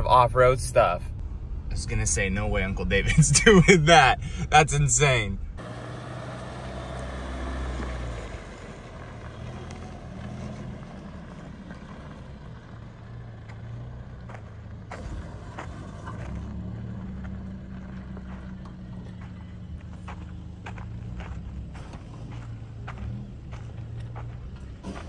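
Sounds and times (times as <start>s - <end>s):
truck engine at low revs: 0.0s - 25.0s.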